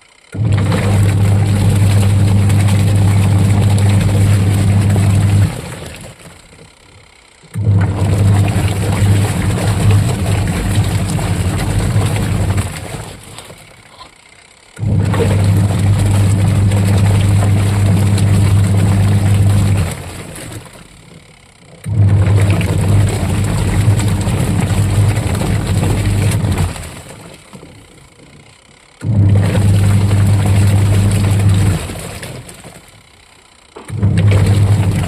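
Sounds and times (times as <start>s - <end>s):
washing machine motor humming: 0.0s - 35.0s.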